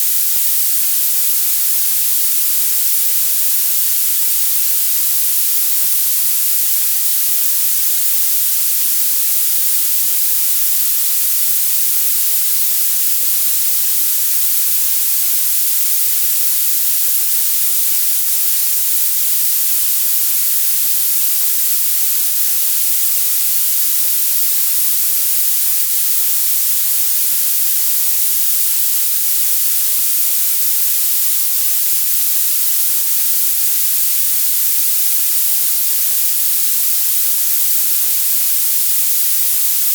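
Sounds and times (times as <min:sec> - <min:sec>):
bright synthesized hiss: 0:00.0 - 0:39.9.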